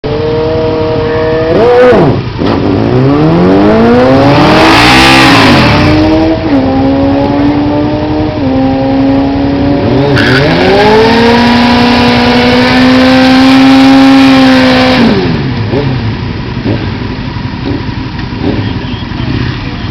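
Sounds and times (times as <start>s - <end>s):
motorcycle engine accelerating: 0.0s - 19.9s.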